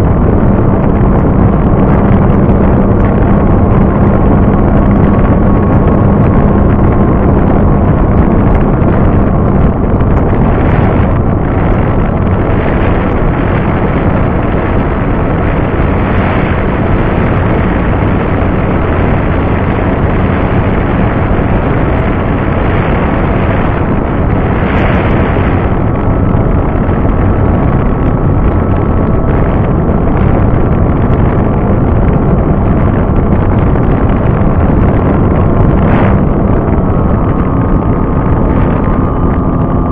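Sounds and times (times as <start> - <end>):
motor and propeller hum: 0.0 - 39.9
wind rushing over microphone: 0.0 - 39.9.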